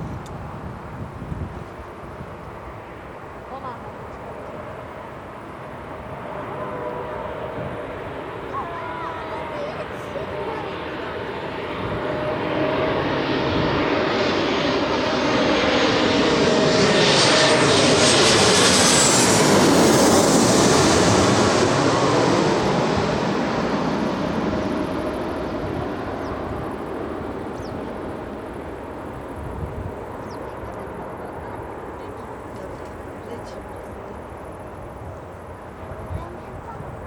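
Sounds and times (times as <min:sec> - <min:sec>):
jet flying past: 0:00.0 - 0:37.0.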